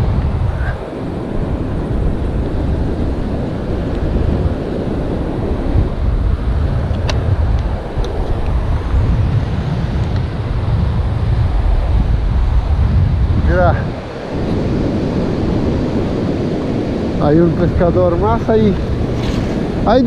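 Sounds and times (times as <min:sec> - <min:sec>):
breaking surf: 0:00.0 - 0:20.0
wind buffeting microphone: 0:00.0 - 0:20.0.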